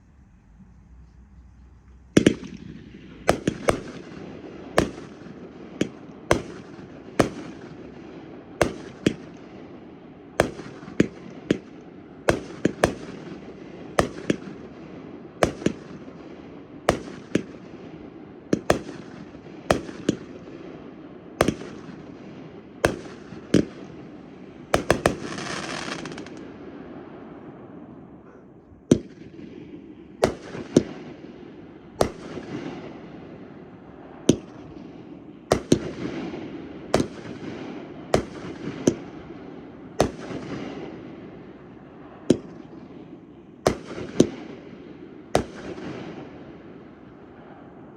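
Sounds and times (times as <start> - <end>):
fireworks bangs: 0.5 - 47.9.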